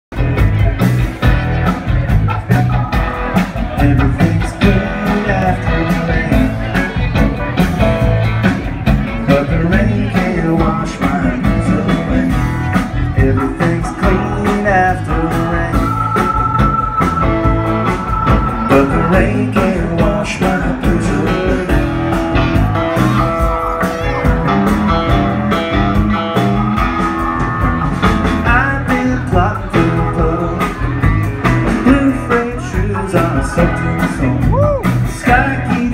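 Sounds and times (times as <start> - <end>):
live rock band playing: 0.1 - 35.9.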